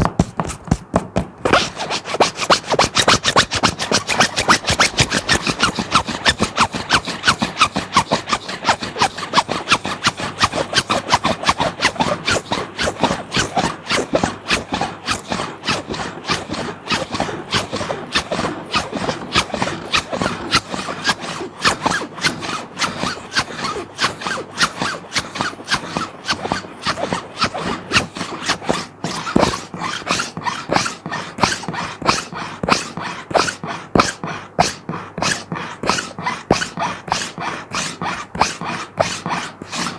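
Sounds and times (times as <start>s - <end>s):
plastic sheet being scratched: 0.0s - 39.9s.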